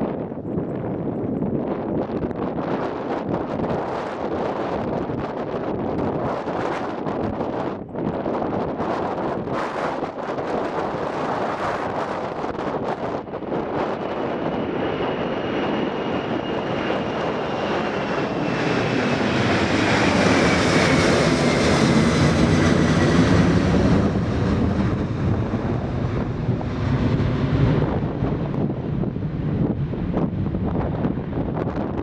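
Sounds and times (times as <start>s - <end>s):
jet airliner passing by: 0.0s - 32.0s
wind buffeting microphone: 0.0s - 32.0s.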